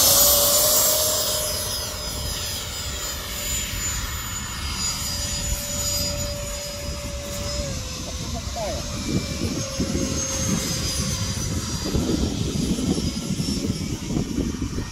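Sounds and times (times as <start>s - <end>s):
model jet motor whining: 0.0s - 14.9s.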